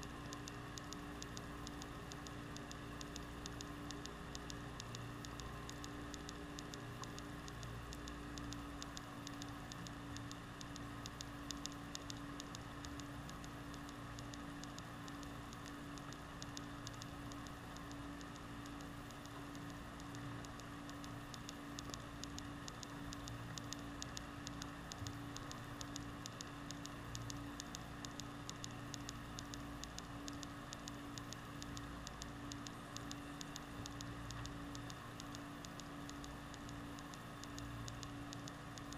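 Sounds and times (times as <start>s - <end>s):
fast crackle of fine clicks: 0.0s - 38.9s.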